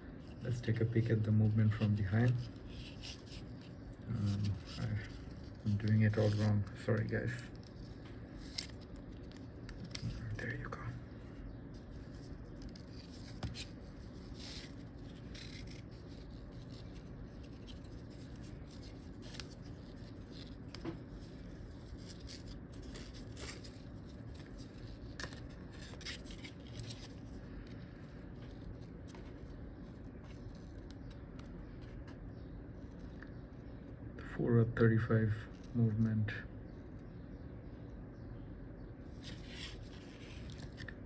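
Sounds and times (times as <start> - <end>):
low room hum: 0.0 - 41.0.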